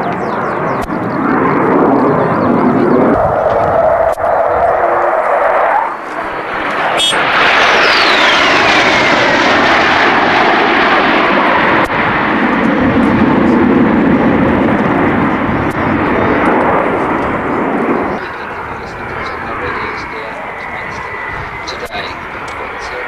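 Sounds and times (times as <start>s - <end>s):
high jet whine falling in pitch: 0.0s - 23.0s
jet engine roar: 0.0s - 23.0s.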